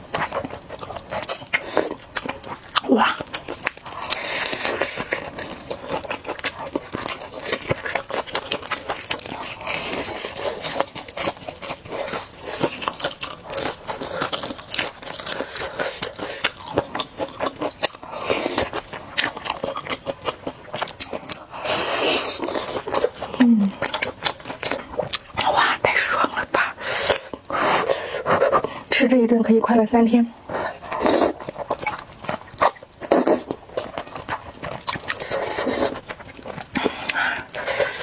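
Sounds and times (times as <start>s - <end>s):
crisp biting and chewing: 0.0s - 28.9s, 30.4s - 38.0s.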